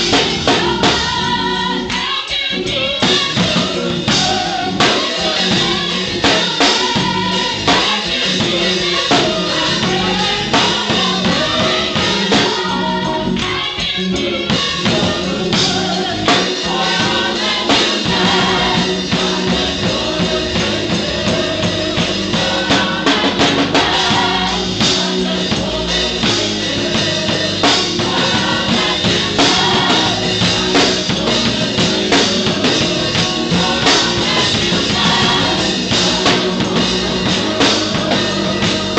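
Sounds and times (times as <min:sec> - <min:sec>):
gospel choir singing: 0:00.0 - 0:38.9
live drum kit and band: 0:00.0 - 0:38.9.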